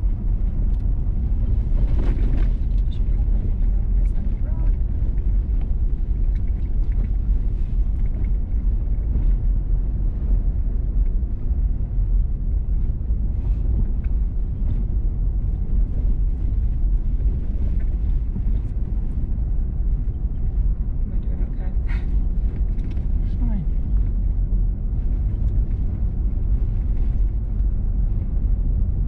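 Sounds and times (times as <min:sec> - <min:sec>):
vehicle driving on gravel: 0:00.0 - 0:29.0.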